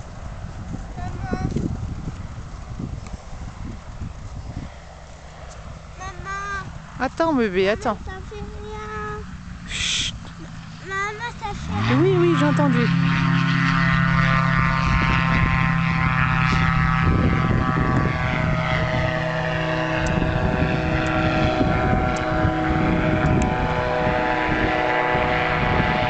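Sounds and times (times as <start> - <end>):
ultralight aircraft engine and propeller: 0.0 - 26.0.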